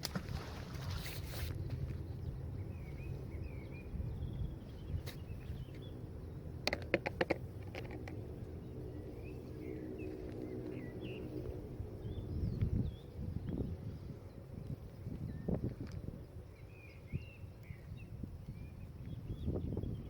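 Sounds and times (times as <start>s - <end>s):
steady low rumble: 0.0s - 20.0s
birds chirping: 1.6s - 20.0s.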